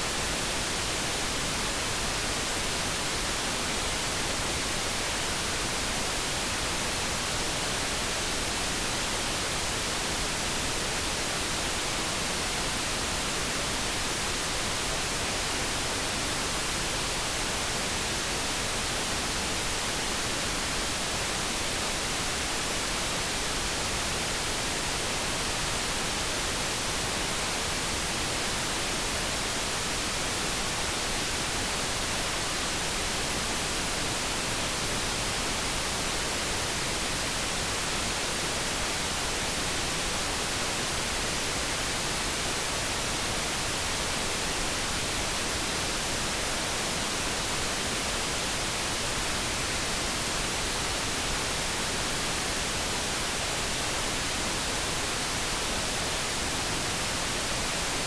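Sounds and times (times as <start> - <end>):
brown noise hiss: 0.0 - 58.0.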